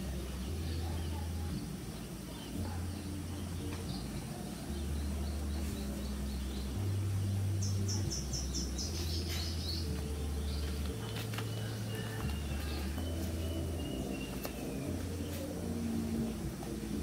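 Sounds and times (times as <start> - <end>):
bird chirping: 0.0 - 17.0
low bass notes humming: 0.0 - 17.0.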